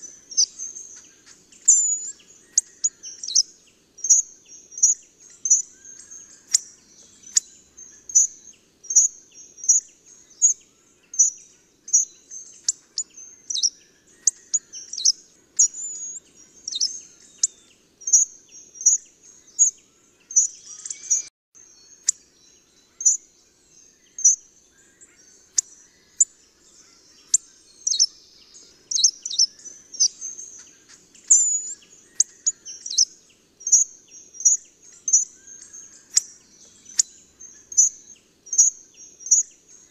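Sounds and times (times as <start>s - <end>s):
bird calls: 0.0s - 39.9s.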